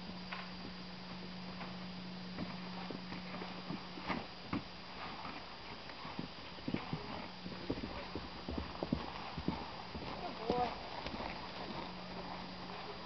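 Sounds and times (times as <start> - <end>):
horse hoofbeats on grass: 0.0 - 13.0.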